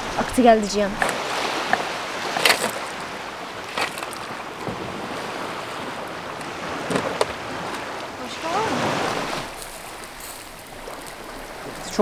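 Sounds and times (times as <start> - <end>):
waves washing onto pebbles: 0.0 - 12.0.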